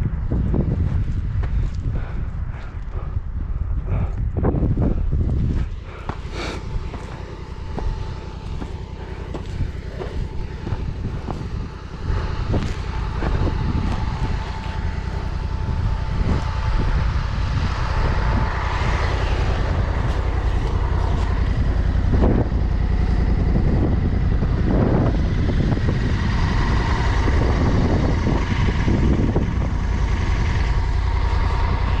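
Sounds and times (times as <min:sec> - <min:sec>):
motorcycle engine rumbling: 0:00.0 - 0:32.0.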